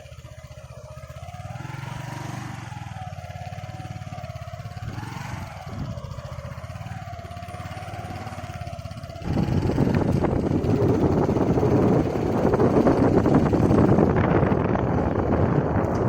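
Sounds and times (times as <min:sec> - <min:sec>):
vehicle engine running: 0:00.0 - 0:16.0
wind noise on microphone: 0:00.0 - 0:16.0.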